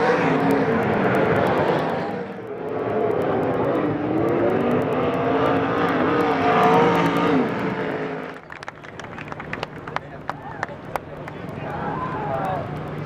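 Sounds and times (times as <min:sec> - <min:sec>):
race car engines running hard: 0:00.0 - 0:13.0.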